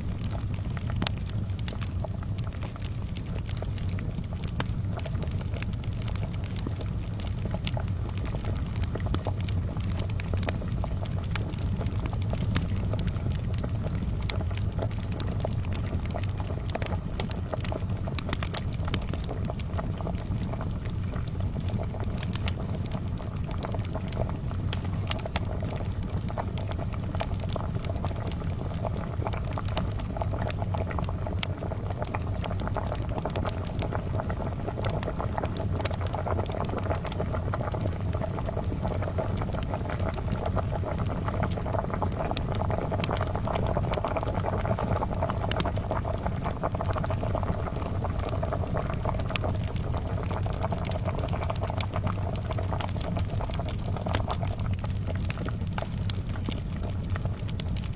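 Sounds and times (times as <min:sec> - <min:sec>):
charcoal fire crackling: 0:00.0 - 0:57.9
kettle boiling: 0:00.0 - 0:57.9.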